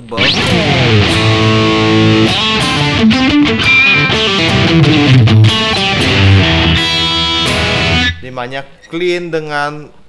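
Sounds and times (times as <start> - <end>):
distorted electric guitar riff: 0.0 - 8.2.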